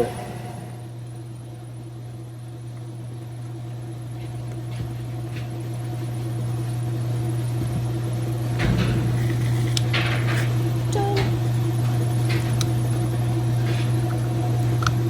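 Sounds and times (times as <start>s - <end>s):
electric hum: 0.0s - 15.0s.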